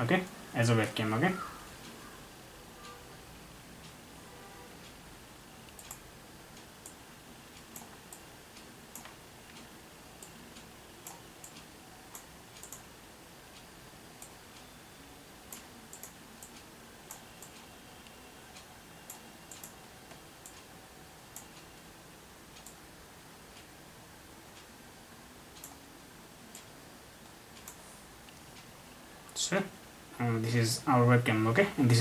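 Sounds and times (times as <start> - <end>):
steady low hiss: 0.0 - 32.0.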